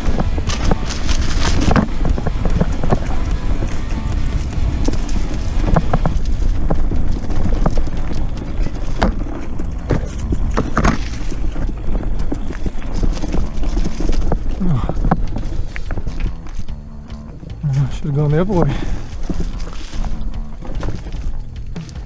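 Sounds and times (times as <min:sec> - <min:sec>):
bike rattling clicks and knocks: 0:00.0 - 0:22.0
wind buffeting microphone: 0:00.0 - 0:22.0.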